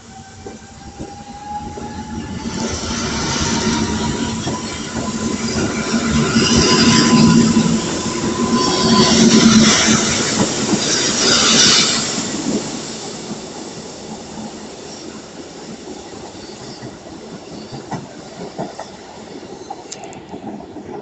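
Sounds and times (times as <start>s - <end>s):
train wheel and rail noise: 0.0s - 21.0s.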